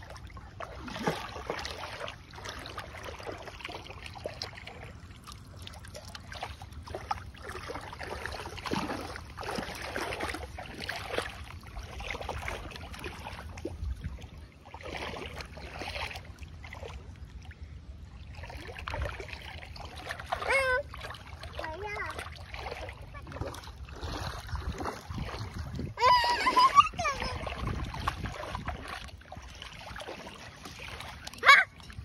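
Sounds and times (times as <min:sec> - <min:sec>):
steady low rumble: 0:00.0 - 0:26.0, 0:26.7 - 0:32.0
muddy water sloshing and splashing: 0:00.0 - 0:32.0.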